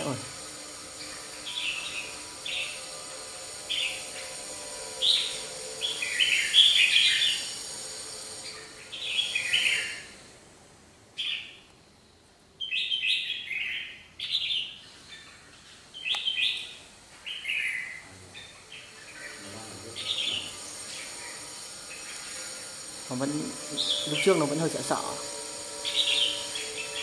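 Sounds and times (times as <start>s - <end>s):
bulbuls chattering song: 0.0s - 10.4s, 12.6s - 27.0s.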